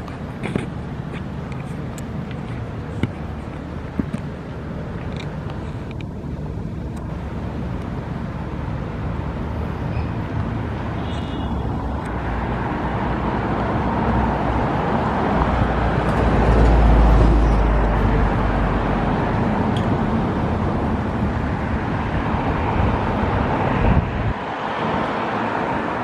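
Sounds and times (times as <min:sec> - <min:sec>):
low engine rumble: 0:00.0 - 0:24.5
city traffic noise: 0:00.0 - 0:26.0.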